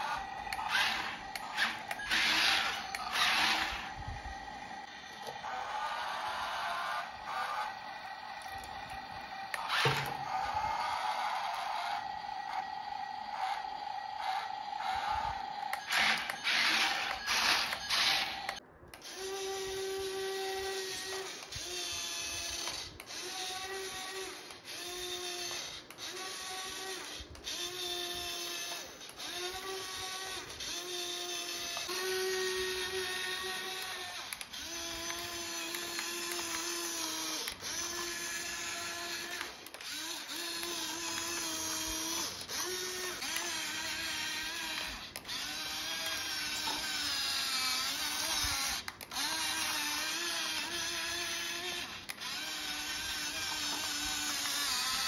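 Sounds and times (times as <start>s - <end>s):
toy electric motor whining: 0.0s - 55.0s.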